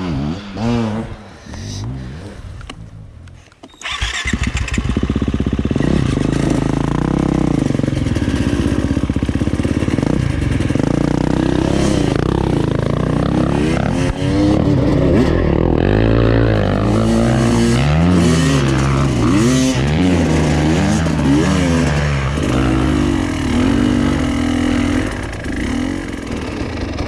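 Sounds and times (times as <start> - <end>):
motorcycle engine revving: 0.0 - 2.4, 3.8 - 27.0.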